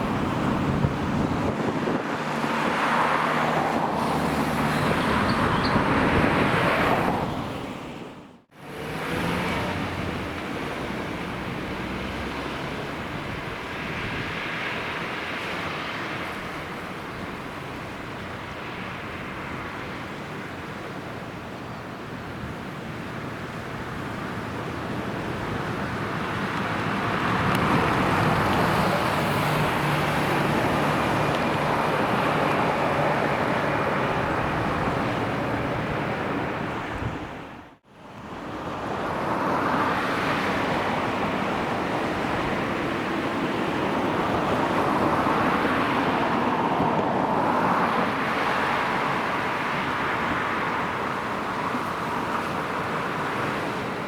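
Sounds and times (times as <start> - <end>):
bus driving on road: 0.0 - 54.0.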